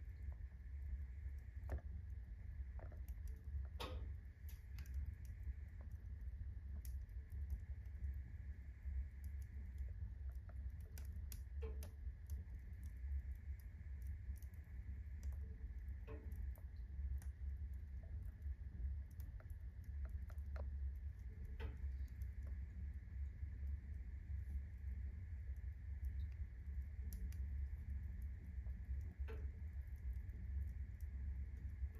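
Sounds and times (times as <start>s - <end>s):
burning firewood popping: 0.0s - 8.2s, 9.1s - 31.9s
low steady rumble: 0.0s - 31.9s
wood fire crackling: 0.0s - 31.9s.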